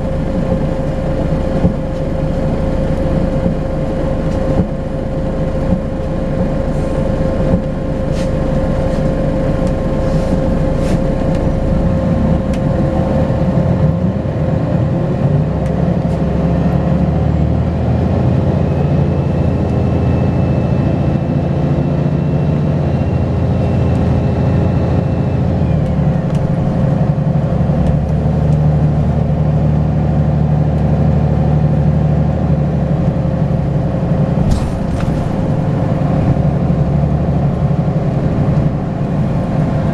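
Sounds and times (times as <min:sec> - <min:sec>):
bus engine running under load: 0:00.0 - 0:39.9.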